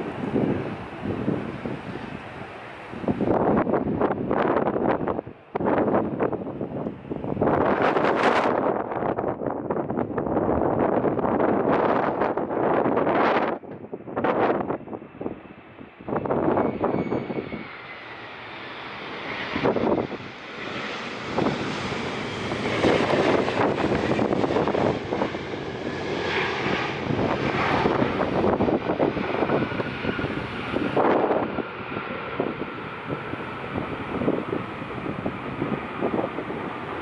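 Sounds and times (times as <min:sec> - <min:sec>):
airliner engines roaring: 0:00.0 - 0:37.0
wind buffeting microphone: 0:00.0 - 0:37.0.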